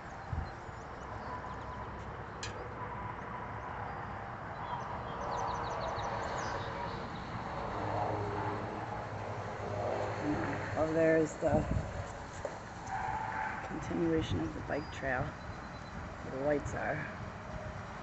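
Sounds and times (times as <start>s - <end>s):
distant road traffic hum: 0.0s - 18.0s.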